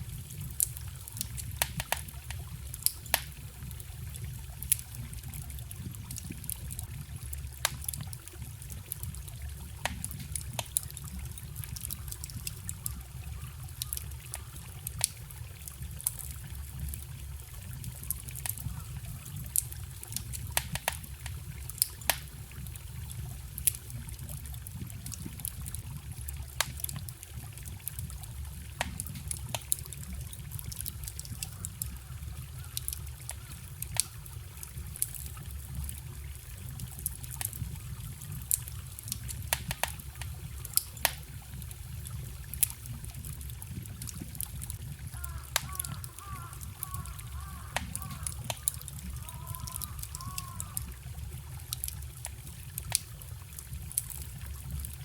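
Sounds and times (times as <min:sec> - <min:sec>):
campfire crackling and popping: 0:00.0 - 0:55.0
stream trickling: 0:00.0 - 0:55.0.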